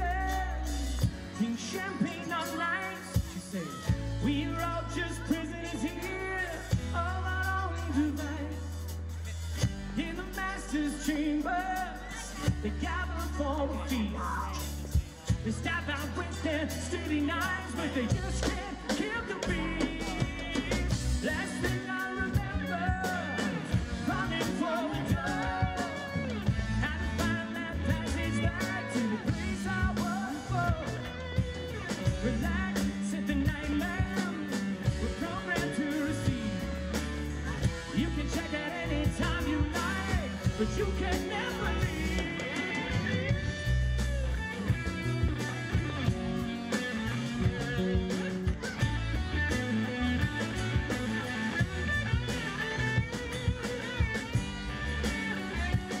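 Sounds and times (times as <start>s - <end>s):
acoustic guitar: 0.0s - 56.0s
bass notes: 0.0s - 56.0s
man singing: 0.0s - 56.0s
steady drum beat: 0.0s - 56.0s.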